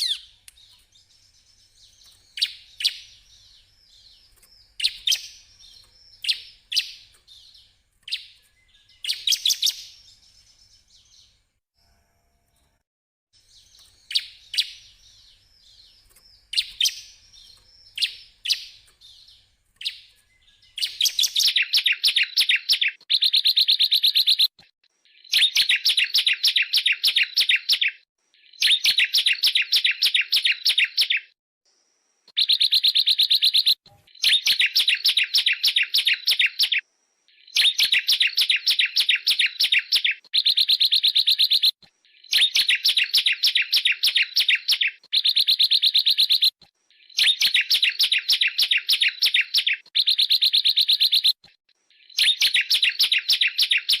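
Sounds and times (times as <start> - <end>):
bird song with rapid trills: 0.0 - 12.8, 13.4 - 31.4, 32.3 - 54.0.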